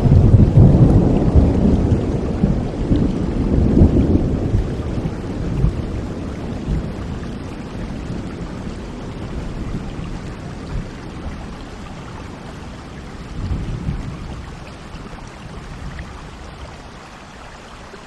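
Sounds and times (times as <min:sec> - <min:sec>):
low thunder rumble: 0:00.0 - 0:16.8
steady rain: 0:00.0 - 0:18.0.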